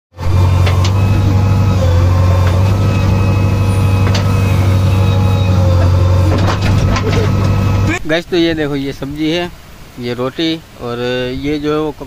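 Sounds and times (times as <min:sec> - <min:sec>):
diesel engine droning: 0:00.1 - 0:09.9.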